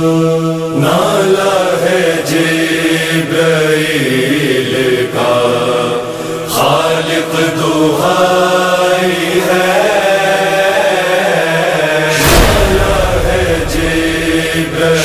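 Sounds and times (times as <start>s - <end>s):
mourning lament chanted: 0.0s - 15.0s.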